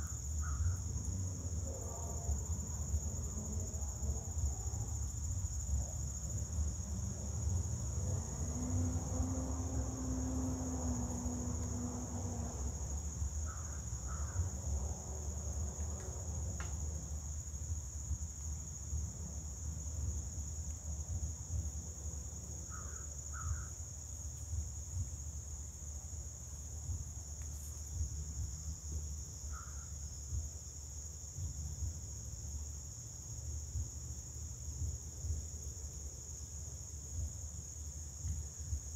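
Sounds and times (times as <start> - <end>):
crickets chirping chorus: 0.0 - 38.9.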